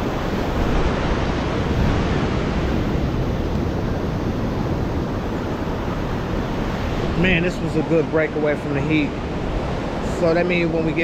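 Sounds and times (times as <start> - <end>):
ocean surf: 0.0 - 11.0
wind rumbling on microphone: 0.0 - 11.0.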